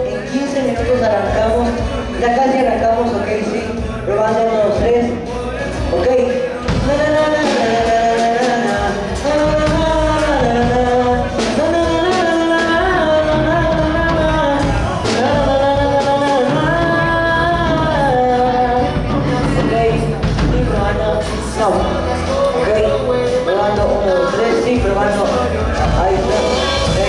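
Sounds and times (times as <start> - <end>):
live band playing: 0.0 - 27.0.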